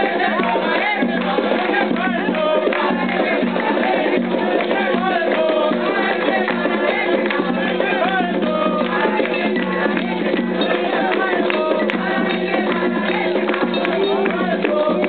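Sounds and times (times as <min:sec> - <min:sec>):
hand drum and percussion rhythm: 0:00.0 - 0:15.0
voices singing a chant: 0:00.0 - 0:15.0.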